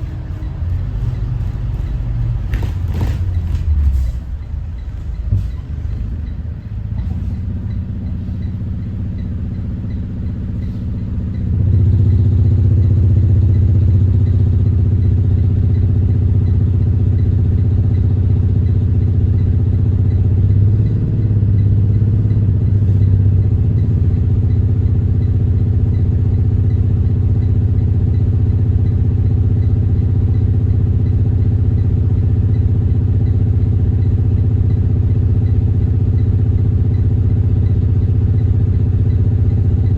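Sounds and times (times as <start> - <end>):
bus diesel engine humming: 0.0 - 39.9.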